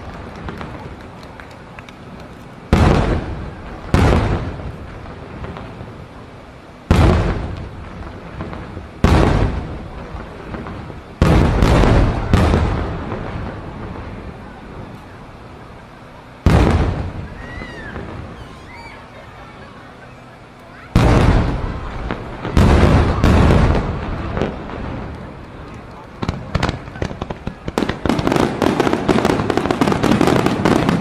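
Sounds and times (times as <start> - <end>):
fireworks booming: 0.0 - 31.0
rolling rumble after booms: 0.0 - 31.0.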